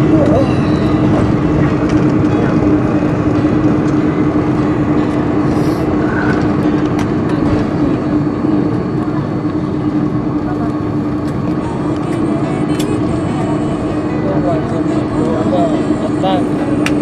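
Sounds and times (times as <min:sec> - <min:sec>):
engine and airflow rush: 0:00.0 - 0:17.0
steady hum: 0:00.0 - 0:17.0.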